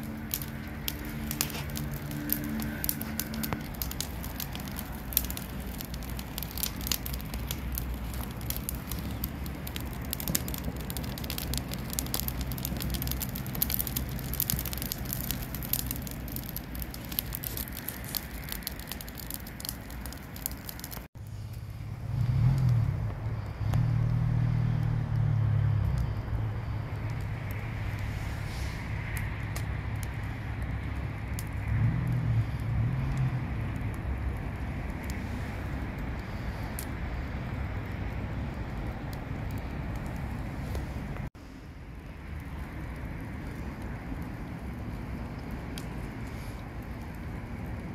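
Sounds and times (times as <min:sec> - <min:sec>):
low engine-like hum: 0:00.0 - 0:20.2, 0:21.2 - 0:47.9
fire crackling and popping: 0:00.0 - 0:47.9.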